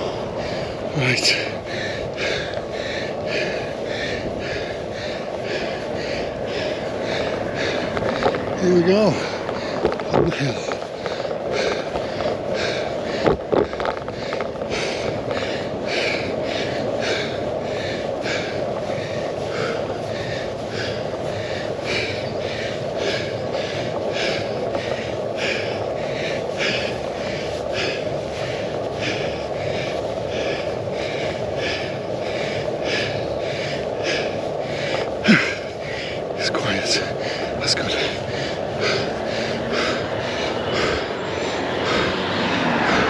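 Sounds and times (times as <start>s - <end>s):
person panting hard: 0.0s - 43.0s
wind and road noise: 0.0s - 43.0s.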